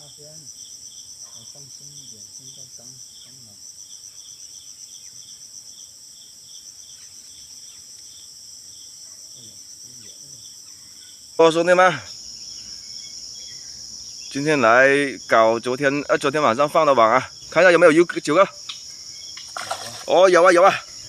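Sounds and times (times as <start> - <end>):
insects trilling: 0.0 - 21.0
lower insect chirp pulsing: 0.0 - 21.0.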